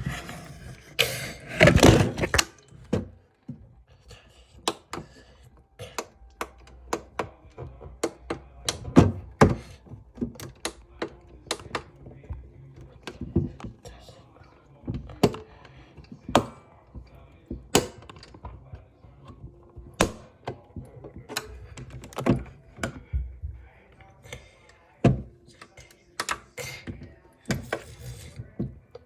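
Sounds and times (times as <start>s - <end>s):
hard objects clicking and knocking: 0.0s - 29.0s.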